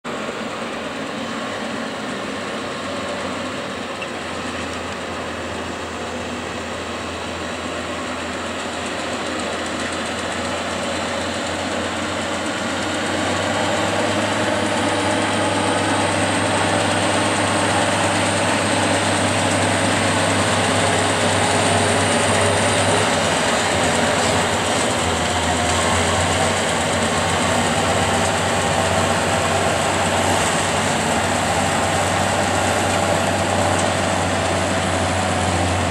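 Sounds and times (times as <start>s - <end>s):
round baler running: 0.0s - 35.9s
tractor engine running: 0.1s - 35.9s.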